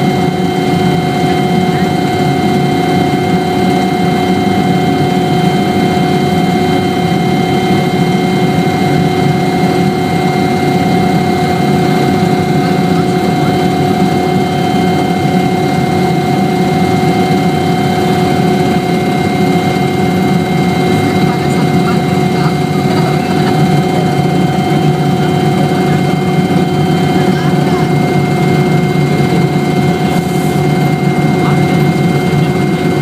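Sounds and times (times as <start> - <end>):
helicopter running: 0.0 - 33.0.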